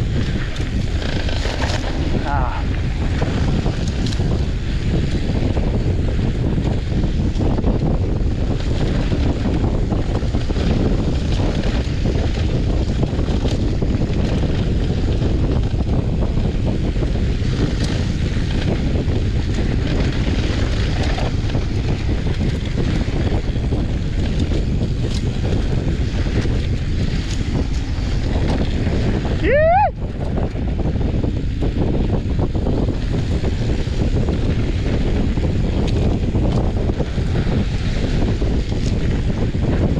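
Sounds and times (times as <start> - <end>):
bike clicks and rattles: 0.0 - 39.9
bike tyres rolling on dirt: 0.0 - 39.9
wind on microphone: 0.0 - 39.9.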